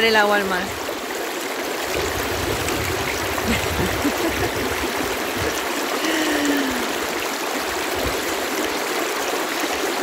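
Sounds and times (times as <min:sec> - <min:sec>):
water flowing in a canal: 0:00.0 - 0:10.0.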